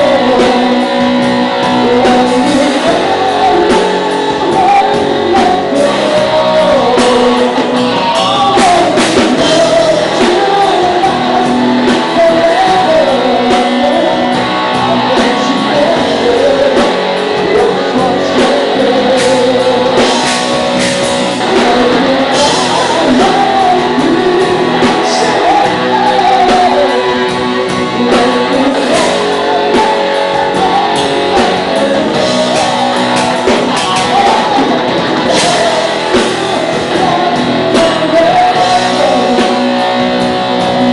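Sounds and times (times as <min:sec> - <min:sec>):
lead vocal singing or shouting: 0:00.0 - 0:40.9
live rock band playing: 0:00.0 - 0:40.9.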